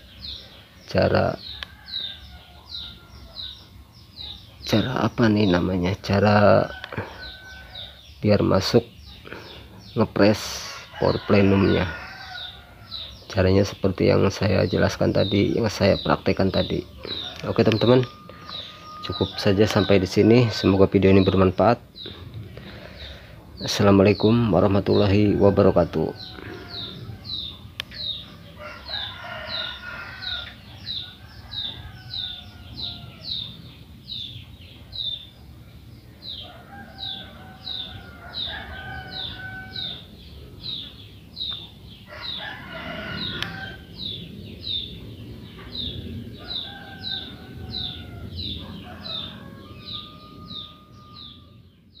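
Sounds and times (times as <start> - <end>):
longer lower bird calls: 0.0 - 52.0.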